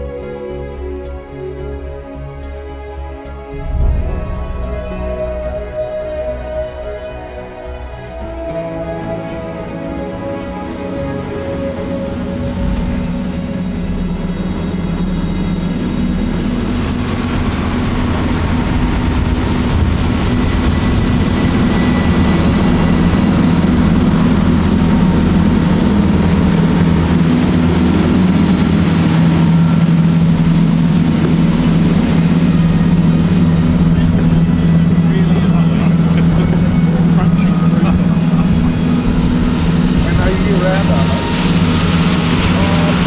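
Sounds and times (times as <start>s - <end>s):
boat engine drone: 0.0s - 43.0s
water and wind rushing: 0.0s - 43.0s.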